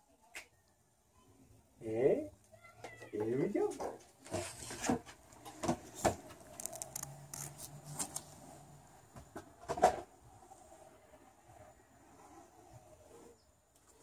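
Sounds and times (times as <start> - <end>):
skateboard rolling on concrete: 2.5 - 14.0.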